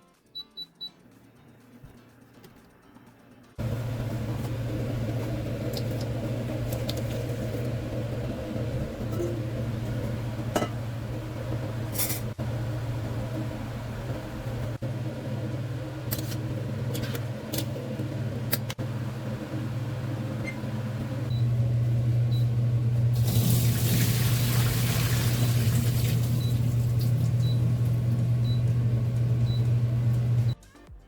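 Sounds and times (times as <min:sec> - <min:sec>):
kitchen appliance humming: 0:03.6 - 0:30.6.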